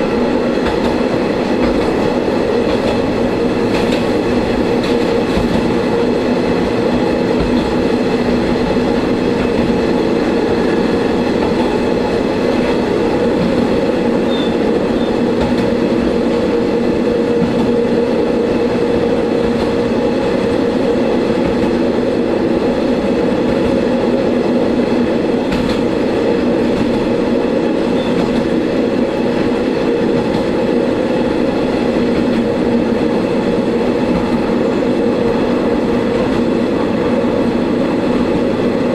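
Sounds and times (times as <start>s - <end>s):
railcar engine drone: 0.0s - 38.9s
wheels rumbling on rail: 0.0s - 38.9s.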